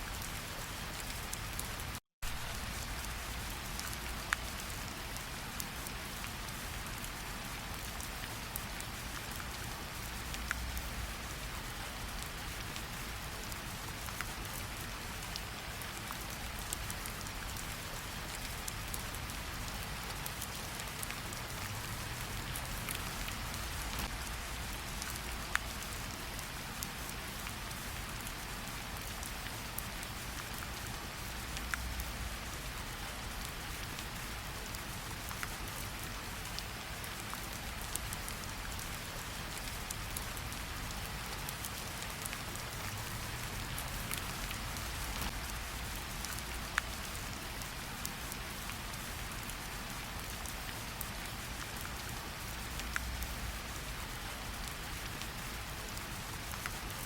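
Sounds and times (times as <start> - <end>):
close raindrops striking: 0.0 - 57.0
rain falling on leaves: 0.0 - 57.0.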